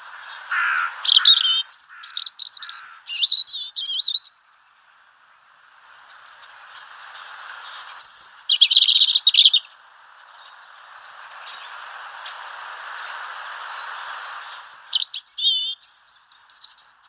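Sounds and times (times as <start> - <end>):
faint steady hiss: 0.0 - 17.0
small songbirds chirping: 0.0 - 17.0.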